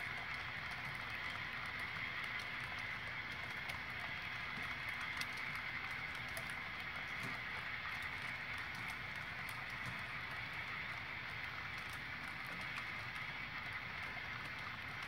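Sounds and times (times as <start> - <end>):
model train cars rolling on track: 0.0 - 15.0.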